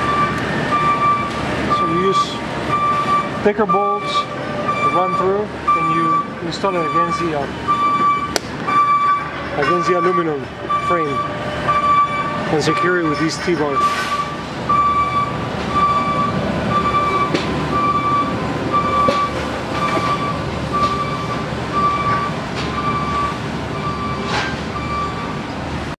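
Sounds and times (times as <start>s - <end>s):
electronic warning beeps: 0.0s - 25.5s
machinery rumble: 0.0s - 26.0s.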